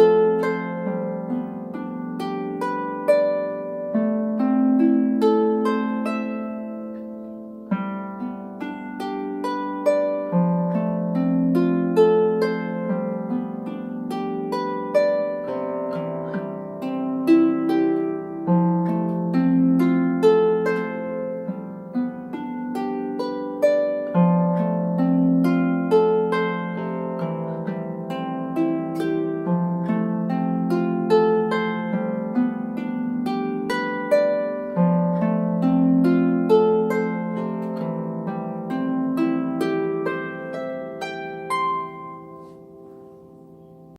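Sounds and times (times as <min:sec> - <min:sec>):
solo harp melody: 0:00.0 - 0:43.9.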